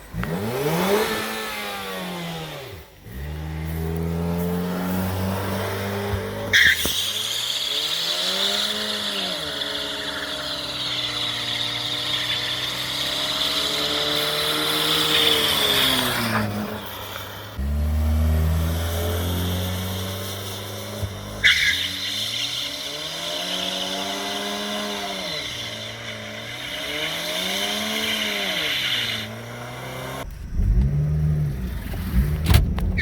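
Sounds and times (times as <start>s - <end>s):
car engine revving hard: 0.0s - 33.0s
tires squealing: 2.5s - 33.0s.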